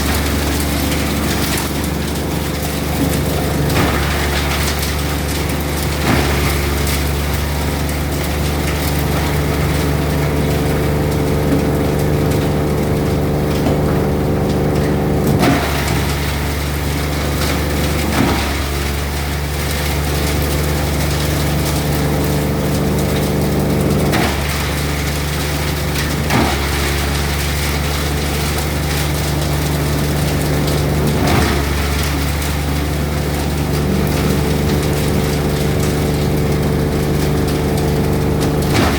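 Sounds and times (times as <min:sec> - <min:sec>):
machine droning steadily: 0:00.0 - 0:38.9.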